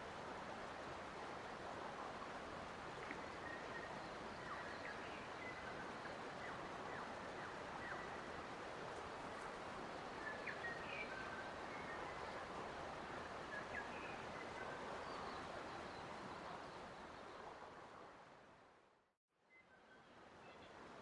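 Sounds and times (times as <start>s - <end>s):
steady forest hiss: 0.0s - 21.0s.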